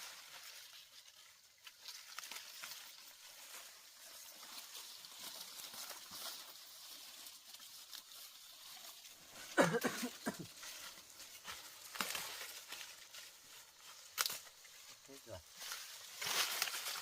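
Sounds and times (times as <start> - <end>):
corn stalks and leaves rustling: 0.0 - 17.0.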